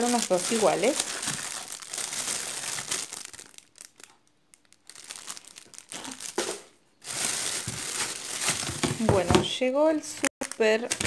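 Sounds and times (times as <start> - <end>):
plastic bags crinkling: 0.0 - 9.3, 10.3 - 11.0.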